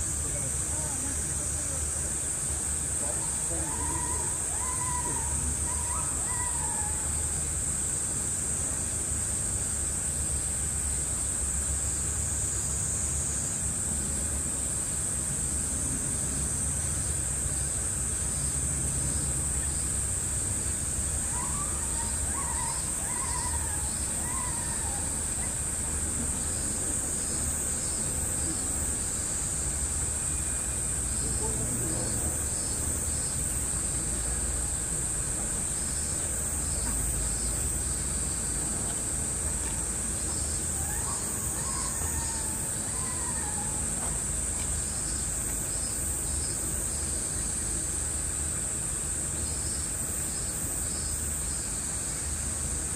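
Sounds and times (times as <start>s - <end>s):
cicadas droning: 0.0s - 52.9s
low outdoor rumble: 0.0s - 52.9s
pulsing insect call: 0.0s - 52.9s.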